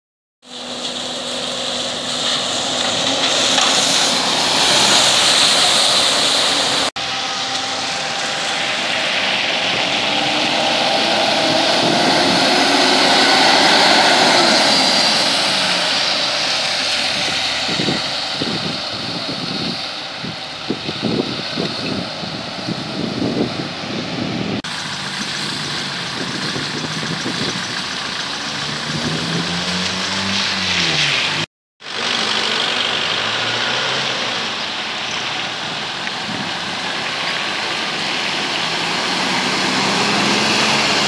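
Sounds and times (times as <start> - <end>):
bus diesel engines: 0.4 - 41.0
engine whine: 0.4 - 41.0
tyres hissing on wet road: 0.4 - 41.0.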